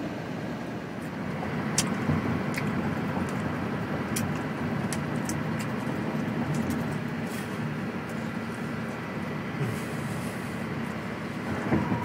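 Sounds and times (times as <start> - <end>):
truck cab rumble: 0.0 - 12.0.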